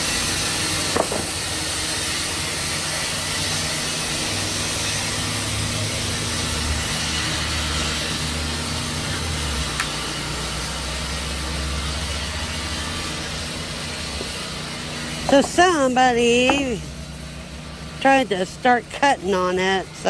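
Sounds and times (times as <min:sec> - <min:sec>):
sawmill engine hum: 0:00.0 - 0:20.0.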